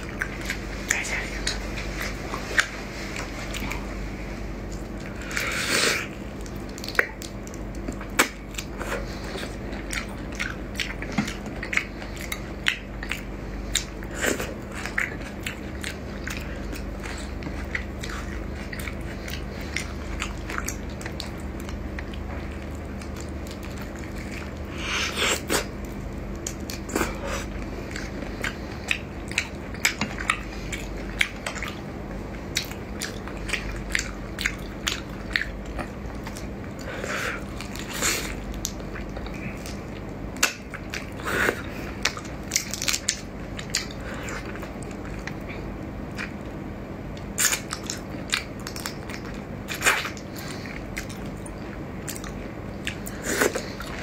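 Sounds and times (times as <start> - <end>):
crunchy chewing of shrimp: 0.0 - 54.0.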